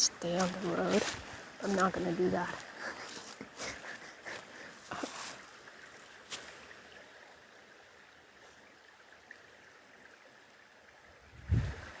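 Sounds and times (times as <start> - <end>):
stream running water: 0.0 - 12.0.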